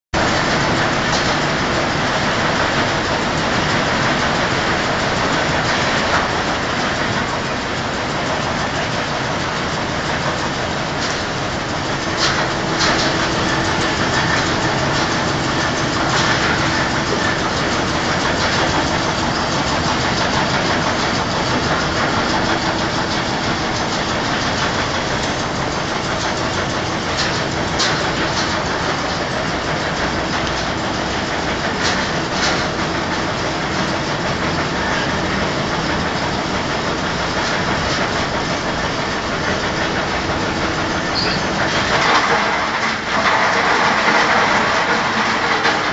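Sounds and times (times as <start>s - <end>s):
industrial fan whirring: 0.2s - 45.9s.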